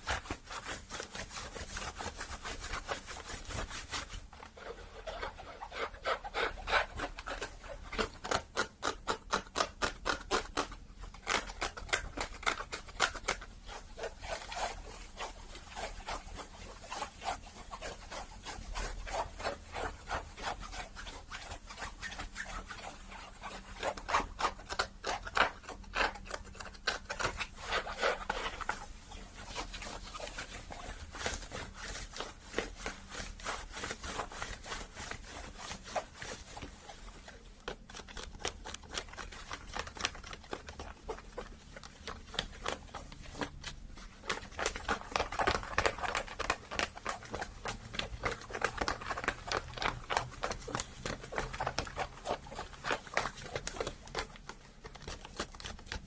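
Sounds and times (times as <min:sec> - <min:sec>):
scratching on hat fabric: 0:00.0 - 0:56.0.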